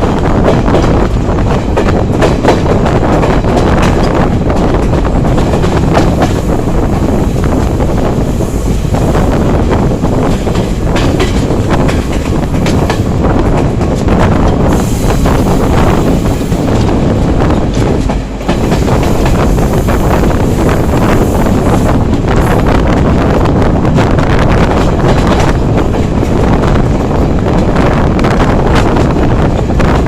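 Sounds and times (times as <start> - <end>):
train rumble: 0.0 - 30.0
wheel clatter over rail joints: 0.0 - 30.0.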